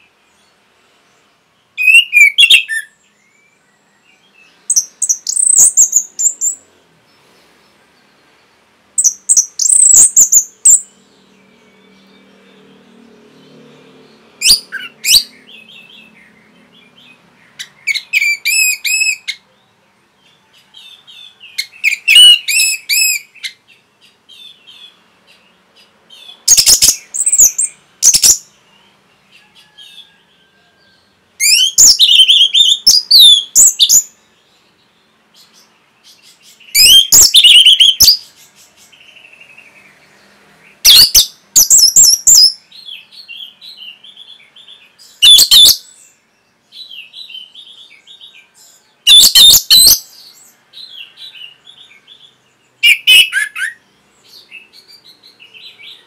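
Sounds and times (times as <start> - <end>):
soft bird twittering: 0.0 - 56.0.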